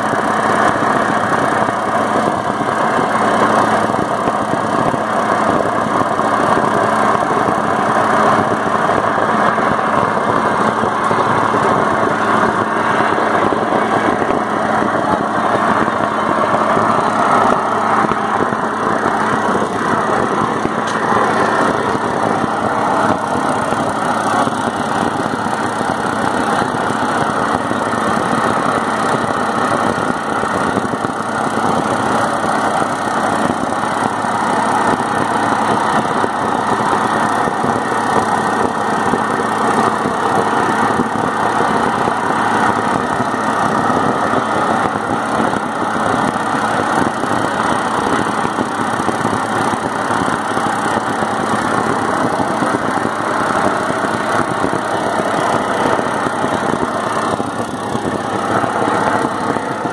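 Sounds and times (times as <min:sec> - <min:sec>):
preheating equipment droning: 0:00.0 - 0:59.9.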